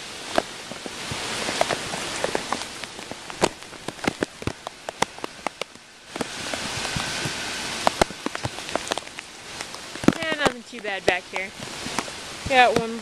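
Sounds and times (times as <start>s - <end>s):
heavy rain falling: 0.0s - 13.0s
raindrops tapping plastic bag: 0.0s - 13.0s.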